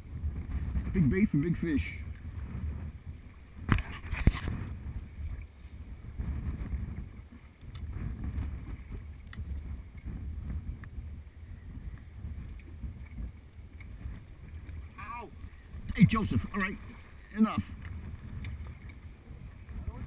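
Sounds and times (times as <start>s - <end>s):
wind buffeting microphone: 0.0s - 20.0s
water lapping at boat hull: 2.0s - 20.0s.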